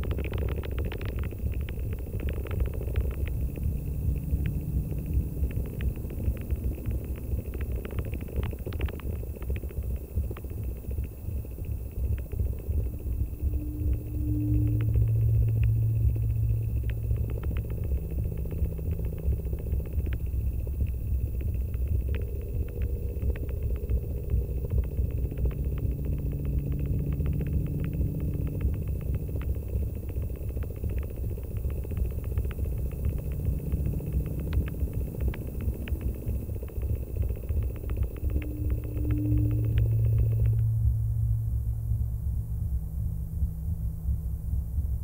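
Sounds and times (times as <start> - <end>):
crackling clicks: 0.0 - 40.7
deep rumbling electronic drone: 0.0 - 45.0
faint high whine: 0.0 - 45.0.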